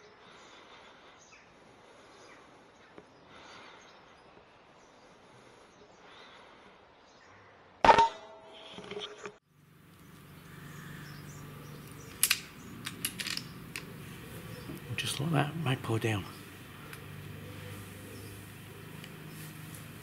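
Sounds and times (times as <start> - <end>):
faint outdoor background: 0.0 - 20.0.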